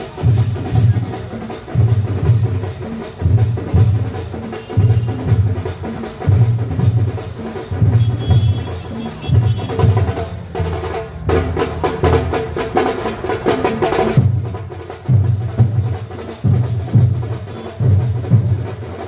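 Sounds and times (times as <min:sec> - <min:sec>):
heavy low drum beats: 0:00.0 - 0:19.0
rapid drumming: 0:00.0 - 0:19.0.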